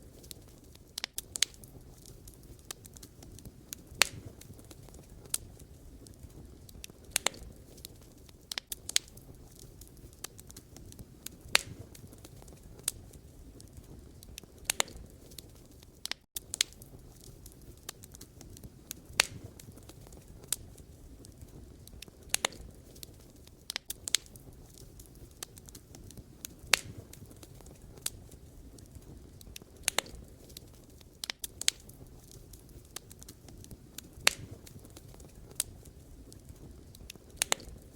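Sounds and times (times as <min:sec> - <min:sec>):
low rumble of flame: 0:00.0 - 0:37.9
wood fire crackling: 0:00.0 - 0:37.9.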